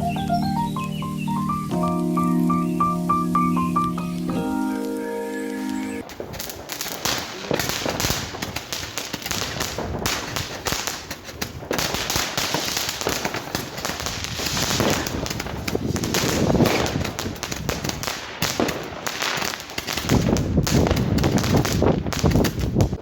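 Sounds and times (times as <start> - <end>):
firecrackers crackling: 0.6 - 23.0.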